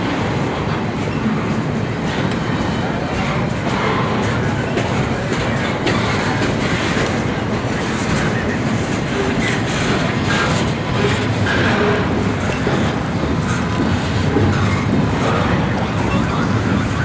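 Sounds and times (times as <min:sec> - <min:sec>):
train wheels clacking on rails: 0:00.0 - 0:17.0.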